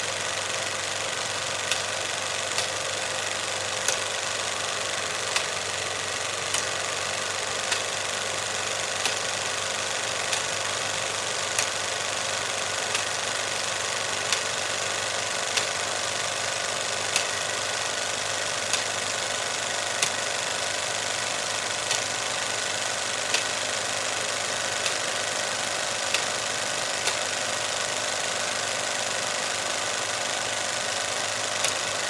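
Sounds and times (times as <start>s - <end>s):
film projector whirring: 0.0s - 32.0s
projector click: 1.2s - 15.9s, 17.0s - 27.8s, 31.6s - 32.0s.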